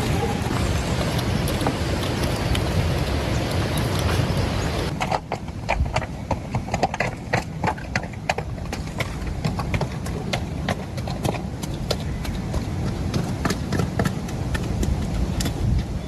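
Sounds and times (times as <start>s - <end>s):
hooves on stony ground: 0.0s - 16.0s.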